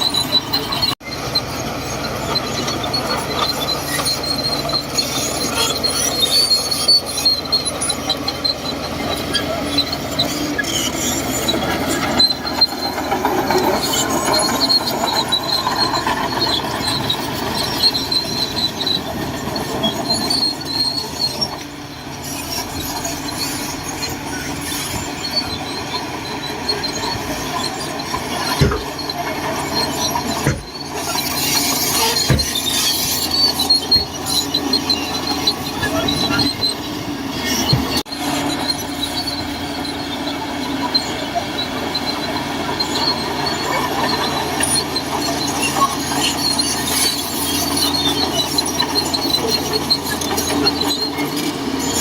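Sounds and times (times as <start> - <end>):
bulldozer diesel engine running: 0.0 - 52.0
steel tracks squealing: 0.0 - 52.0.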